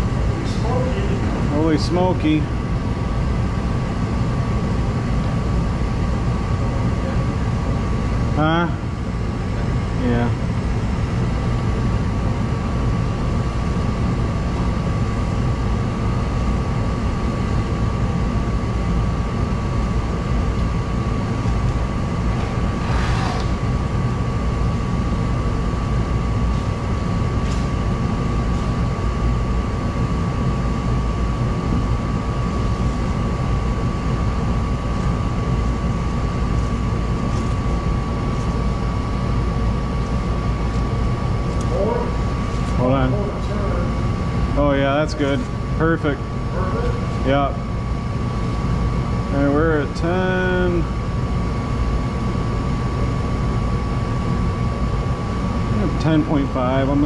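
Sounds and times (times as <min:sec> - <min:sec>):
gas heater humming: 0:00.0 - 0:57.0.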